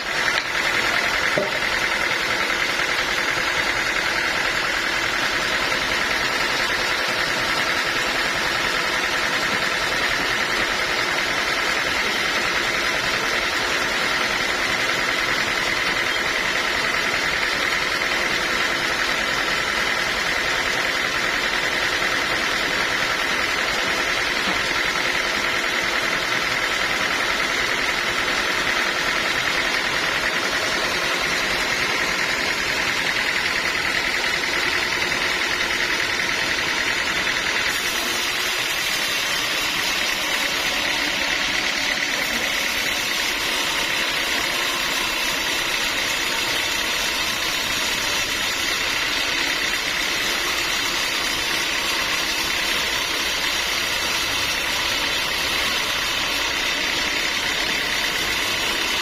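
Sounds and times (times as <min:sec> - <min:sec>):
band sawmill drone and whine: 0:00.0 - 0:59.0.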